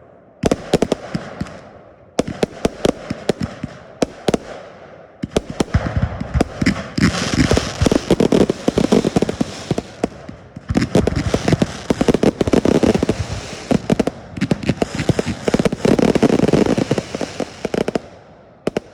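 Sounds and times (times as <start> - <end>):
fireworks bangs and crackling: 0.0 - 18.9.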